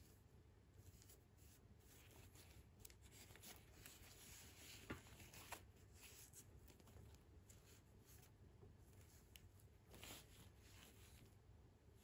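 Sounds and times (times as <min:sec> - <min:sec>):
fingers rustling doll hair: 0:00.0 - 0:12.0.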